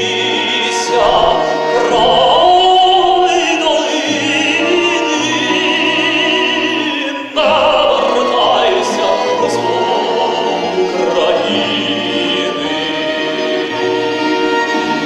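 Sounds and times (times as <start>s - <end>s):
man singing with vibrato: 0.0s - 14.0s.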